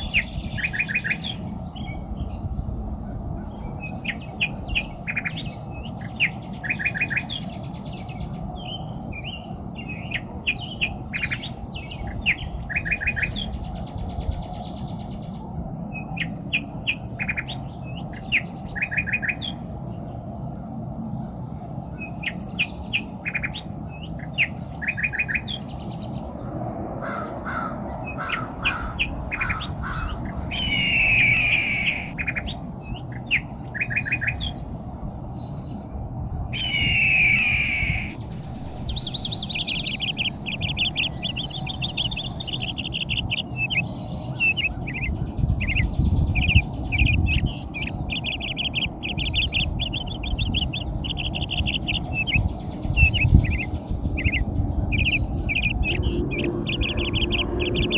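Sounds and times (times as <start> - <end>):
birds chirping and trilling: 0.0 - 57.9
steady low rumble: 0.0 - 57.9.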